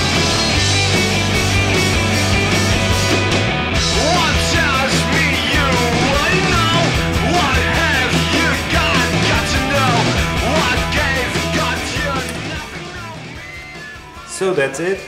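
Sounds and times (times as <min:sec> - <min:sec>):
rock music with distorted guitar: 0:00.0 - 0:15.0.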